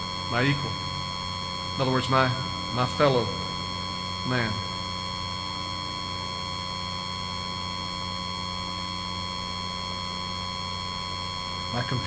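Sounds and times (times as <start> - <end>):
electrical hum with hiss: 0.0 - 12.0
faint high steady tones: 0.0 - 12.0.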